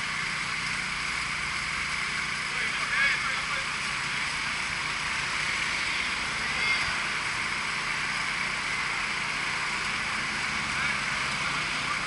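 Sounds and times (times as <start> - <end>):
engine drone with hiss: 0.0 - 12.0.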